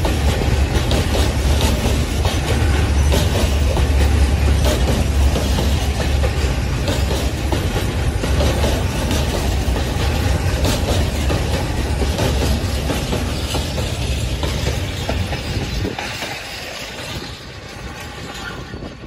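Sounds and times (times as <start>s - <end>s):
freight train wheels clattering: 0.0s - 19.0s.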